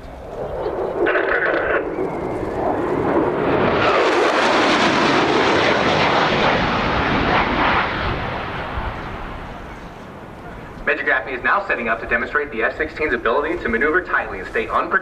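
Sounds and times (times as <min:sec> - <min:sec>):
jet roar: 0:00.0 - 0:15.0.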